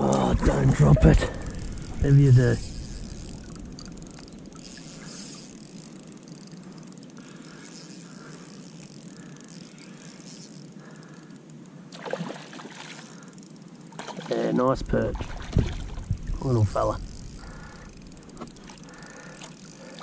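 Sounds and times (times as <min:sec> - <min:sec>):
fishing reel whirring: 0:00.0 - 0:20.0.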